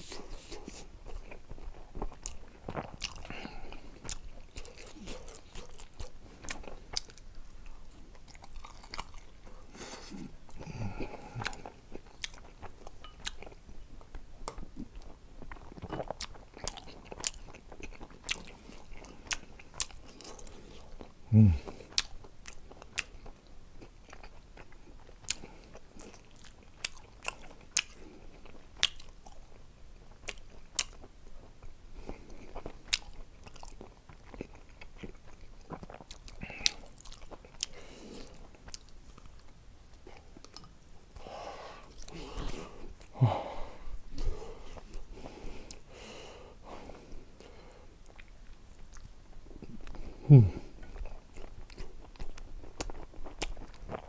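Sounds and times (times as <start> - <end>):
chewing and lip-smacking: 0.0 - 43.2, 47.1 - 54.0.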